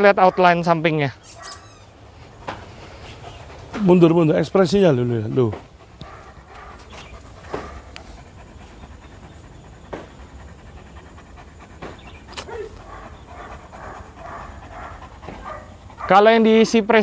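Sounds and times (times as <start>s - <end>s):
dog panting: 1.4s - 17.0s.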